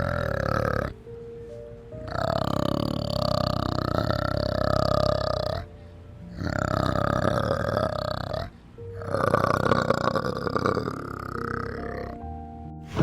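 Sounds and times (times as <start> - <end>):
animal rasping calls: 0.0 - 1.0, 2.0 - 12.2.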